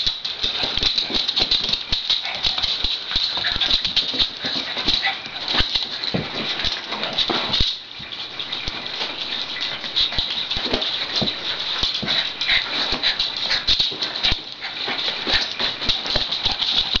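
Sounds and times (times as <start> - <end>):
dogs scuffling: 0.0 - 17.0.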